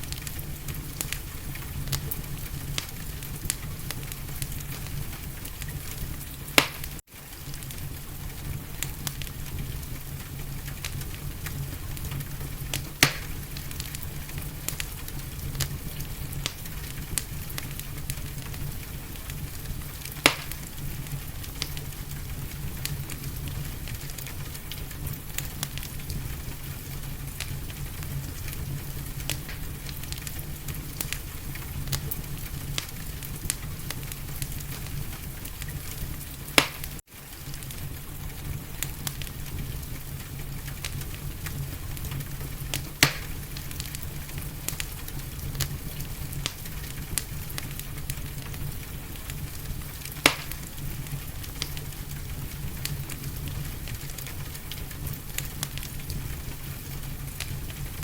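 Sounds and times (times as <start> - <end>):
constant hiss: 0.0 - 58.0
fire pops: 0.0 - 58.0
wood fire crackling: 0.0 - 58.0.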